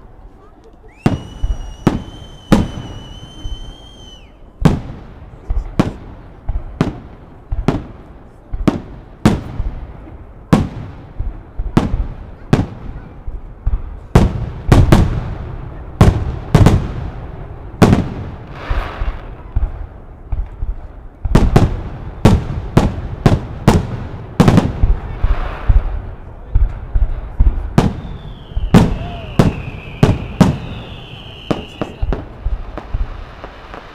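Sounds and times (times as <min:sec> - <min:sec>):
fireworks crackling hiss: 0:00.0 - 0:33.9
fireworks bangs with echo: 0:01.0 - 0:33.9.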